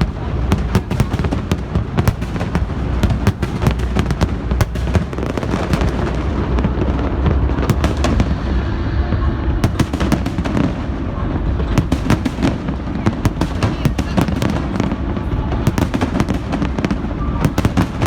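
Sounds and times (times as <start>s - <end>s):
firework crackling reports: 0.0s - 18.0s
low rumble of firework bursts: 0.0s - 18.0s.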